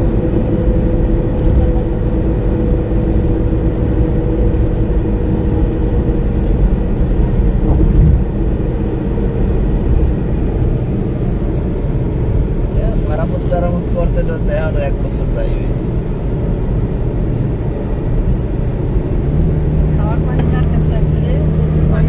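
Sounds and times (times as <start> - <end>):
vehicle road and engine rumble: 0.0 - 22.0.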